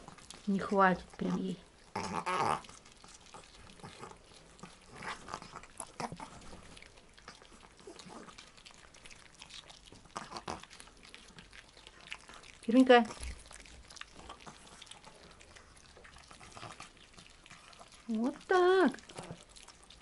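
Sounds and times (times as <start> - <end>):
dogs chewing with crunches: 0.0 - 20.0.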